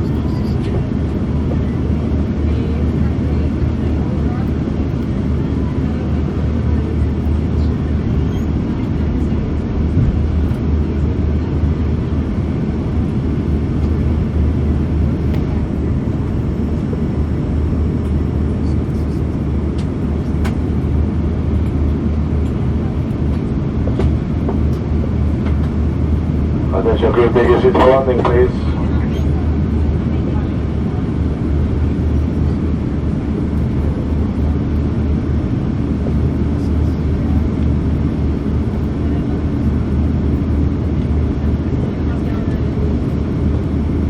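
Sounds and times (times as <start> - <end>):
airliner cabin engine rumble: 0.0 - 44.0
constant low hum: 0.0 - 44.0.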